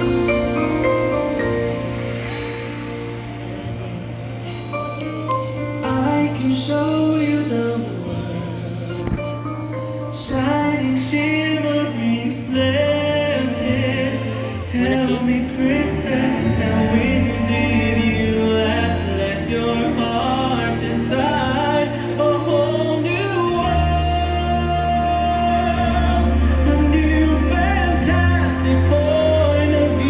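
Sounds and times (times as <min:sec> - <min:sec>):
person singing with vibrato: 0:00.0 - 0:30.0
steady bass notes: 0:00.0 - 0:30.0.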